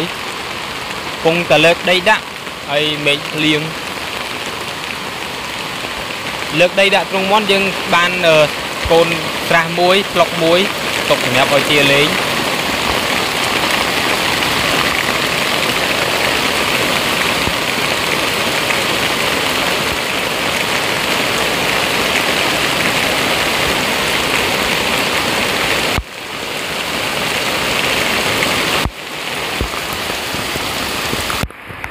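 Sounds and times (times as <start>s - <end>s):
heavy rain on standing water: 0.0s - 31.9s.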